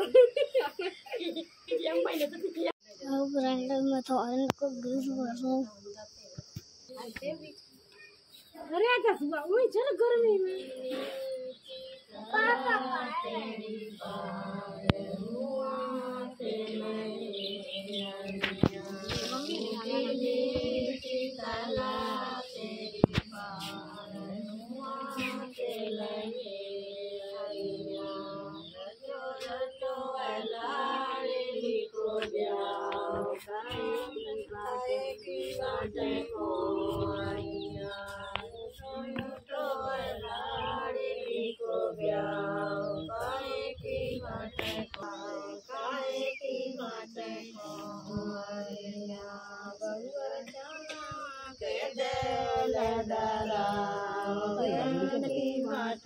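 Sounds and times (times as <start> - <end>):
women singing together: 8.3 - 56.0.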